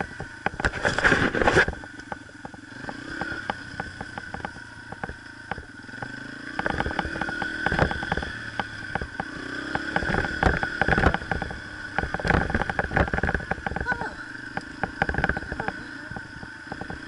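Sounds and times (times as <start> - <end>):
bike rattling over rough ground: 0.0 - 17.0
dirt bike engine accelerating: 0.0 - 17.0.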